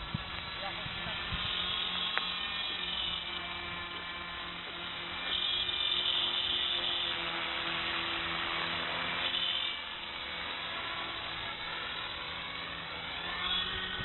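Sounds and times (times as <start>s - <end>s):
model helicopter motor whine: 0.0s - 14.0s.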